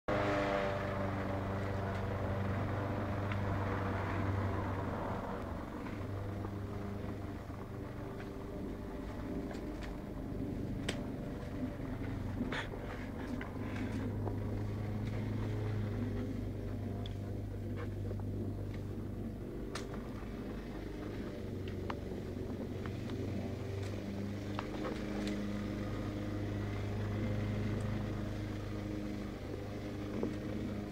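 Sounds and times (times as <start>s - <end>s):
low motor hum: 0.1s - 30.9s.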